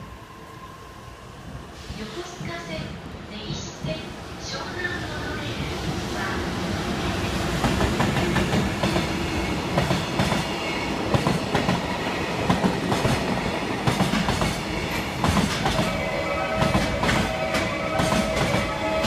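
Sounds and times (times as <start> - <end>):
steel wheels rumbling on rail: 1.4 - 19.0.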